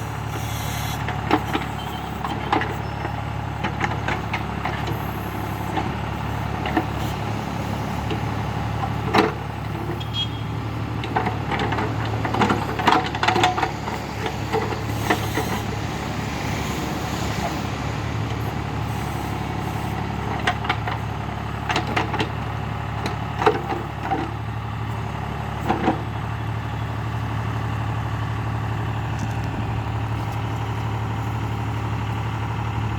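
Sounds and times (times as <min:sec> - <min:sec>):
tractor diesel engine running: 0:00.0 - 0:32.9
backhoe knocks and clatters: 0:01.0 - 0:10.0, 0:10.8 - 0:16.2, 0:18.2 - 0:32.9.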